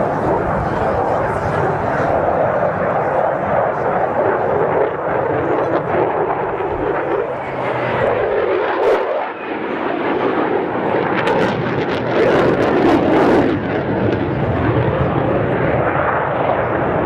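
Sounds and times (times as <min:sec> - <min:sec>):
fighter jets roaring overhead: 0:00.0 - 0:17.0.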